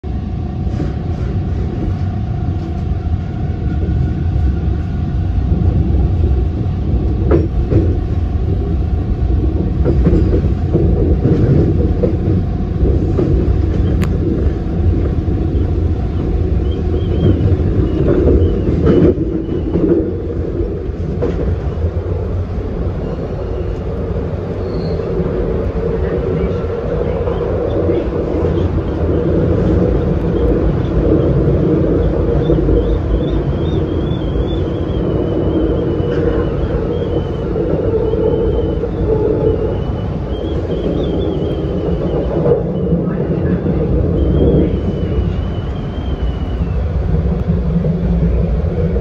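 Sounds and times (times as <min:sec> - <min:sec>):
faint steady whine: 0:00.0 - 0:49.0
subway train rumble in tunnel: 0:00.0 - 0:49.0.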